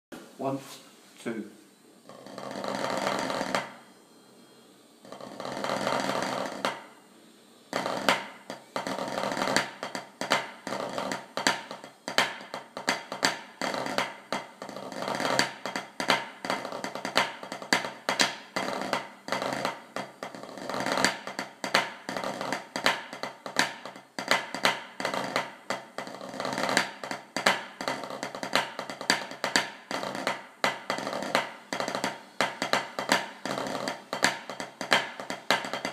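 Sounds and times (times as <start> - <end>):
snare drum rolls and strokes: 5.1 - 6.8, 7.7 - 35.9.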